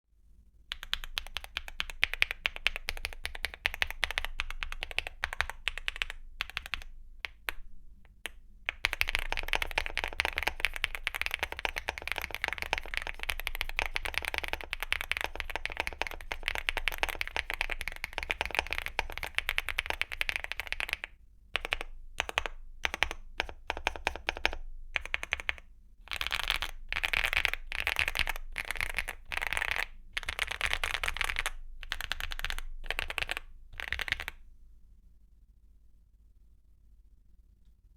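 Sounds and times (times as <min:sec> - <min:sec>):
typing on mechanical keyboard: 0:00.7 - 0:34.4.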